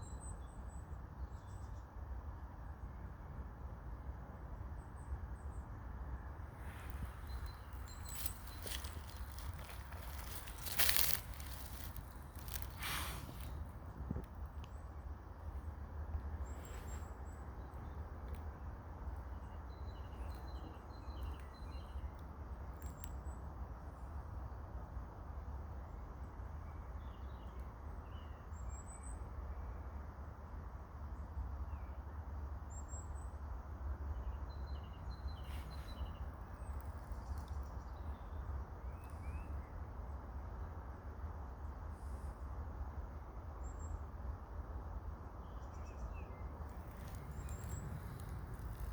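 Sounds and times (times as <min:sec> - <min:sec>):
steady low rumble and hiss: 0:00.0 - 0:48.9.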